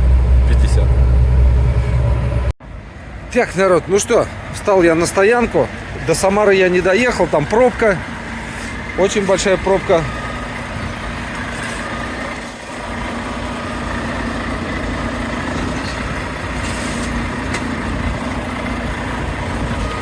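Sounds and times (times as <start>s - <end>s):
truck engine idling: 0.0s - 3.1s, 4.2s - 20.0s.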